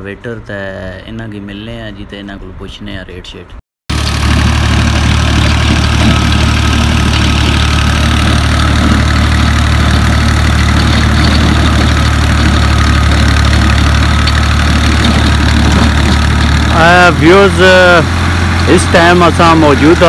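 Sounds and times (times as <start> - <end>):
tractor diesel engine running: 3.9 - 20.0.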